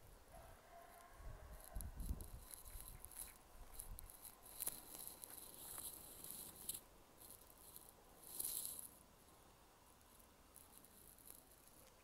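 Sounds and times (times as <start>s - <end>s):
high-pitched crackling and rustling: 0.8s - 12.0s.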